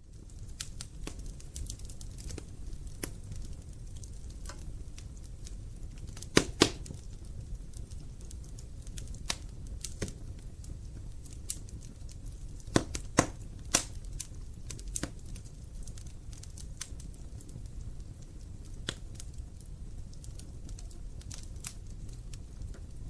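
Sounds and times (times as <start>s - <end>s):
fire rumbling: 0.0s - 23.0s
logs crackling and popping: 0.0s - 23.0s.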